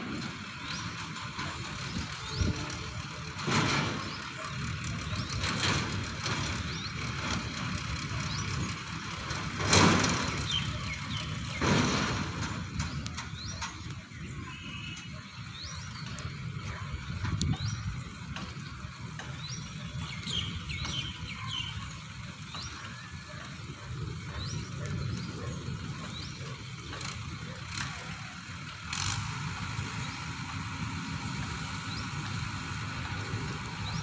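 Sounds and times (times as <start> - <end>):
small birds chirping: 0.2 - 34.0.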